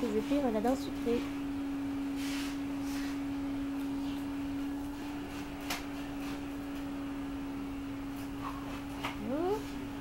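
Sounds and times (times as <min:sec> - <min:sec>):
steady pure tone hum: 0:00.0 - 0:10.0.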